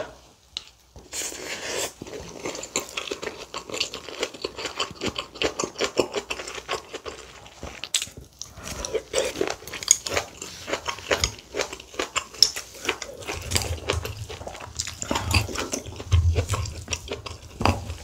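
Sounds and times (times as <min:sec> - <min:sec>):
wet chewing and mouth clicks: 0:00.6 - 0:18.0.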